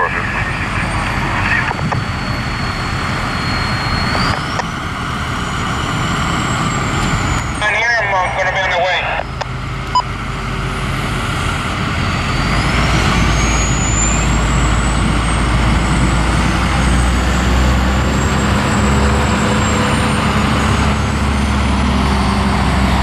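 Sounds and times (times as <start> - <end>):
truck engines rumbling: 0.0 - 23.0.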